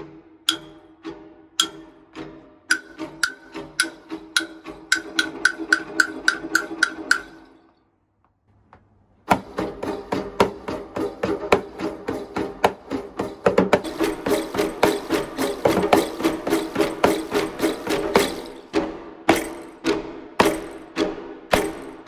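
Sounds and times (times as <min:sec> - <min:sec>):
frame drum rhythm: 0:00.0 - 0:07.5, 0:09.3 - 0:22.0
wooden percussion clacking: 0:00.0 - 0:07.7, 0:09.3 - 0:22.0.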